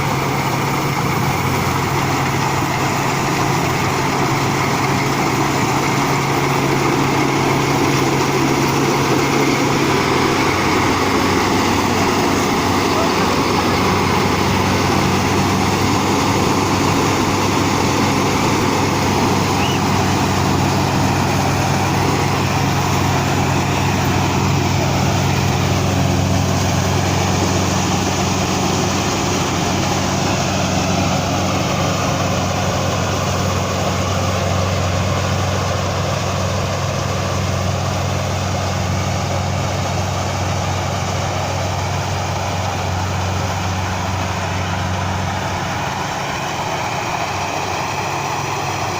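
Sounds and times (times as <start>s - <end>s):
combine harvester engine droning: 0.0s - 48.9s.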